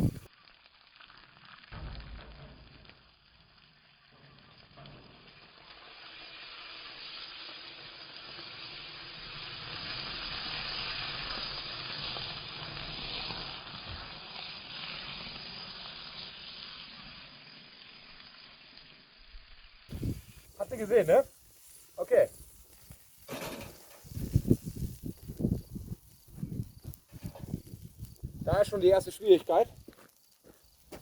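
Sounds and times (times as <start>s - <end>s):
margarine sizzling in a frying pan: 0.0s - 31.0s.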